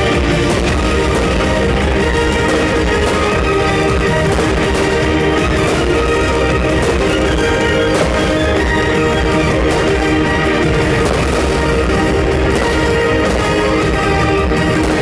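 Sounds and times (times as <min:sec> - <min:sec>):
loud instrumental music: 0:00.0 - 0:15.0.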